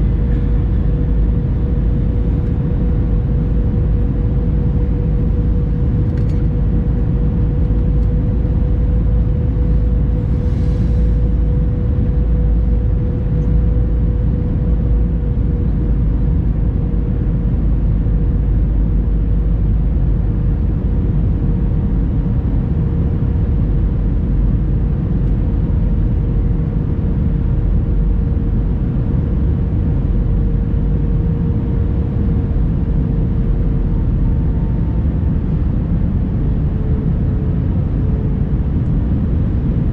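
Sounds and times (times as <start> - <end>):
airplane cabin engine rumble: 0.0 - 39.9
steady cabin hum: 0.0 - 39.9.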